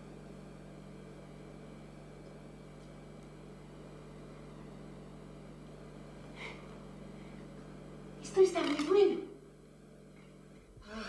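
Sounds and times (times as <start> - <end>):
low electrical hum and hiss: 0.0 - 11.0.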